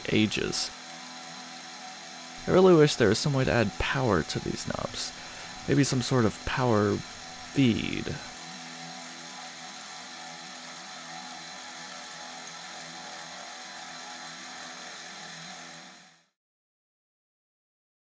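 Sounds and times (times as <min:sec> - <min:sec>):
milling machine cutting metal: 0:00.0 - 0:16.3.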